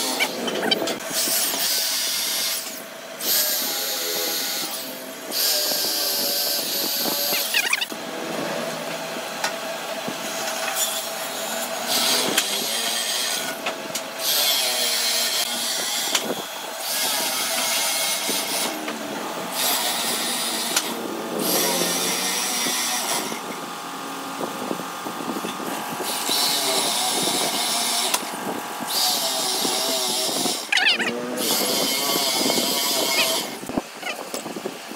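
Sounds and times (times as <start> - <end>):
electric drill boring into wood: 0.0 - 8.3, 10.3 - 34.5.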